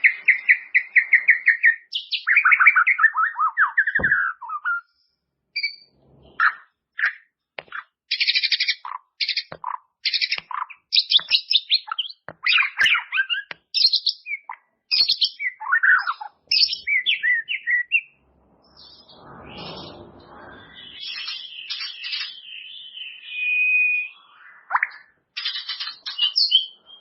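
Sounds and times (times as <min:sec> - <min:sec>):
songbird singing trills and whistles: 0:00.0 - 0:05.0, 0:05.6 - 0:27.0.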